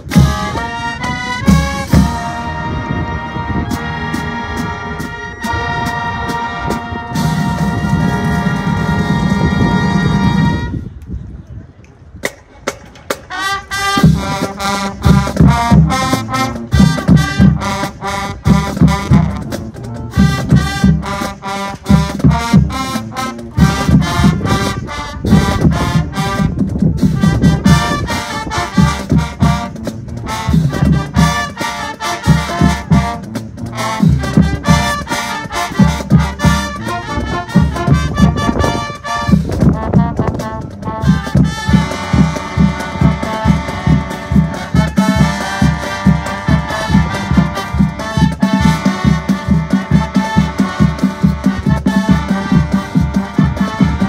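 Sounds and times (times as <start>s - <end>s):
drumline with bass drum hits: 0.0s - 10.6s, 12.2s - 54.0s
brass chords: 0.0s - 11.0s, 13.1s - 54.0s.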